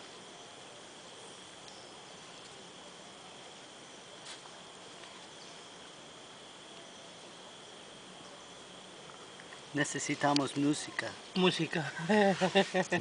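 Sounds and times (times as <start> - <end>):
insects trilling: 0.0 - 13.0
soft hiss: 0.0 - 13.0.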